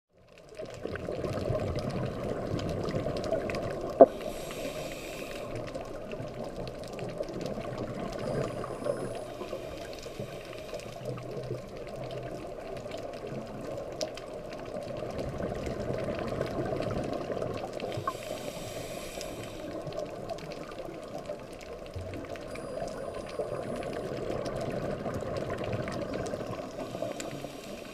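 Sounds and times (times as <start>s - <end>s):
muffled underwater noise: 0.8s - 27.9s
regulator bubbles hissing: 0.8s - 27.9s.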